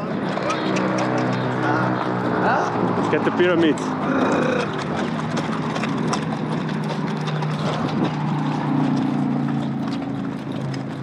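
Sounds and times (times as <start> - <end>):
hooves clopping on dirt: 0.0 - 11.0.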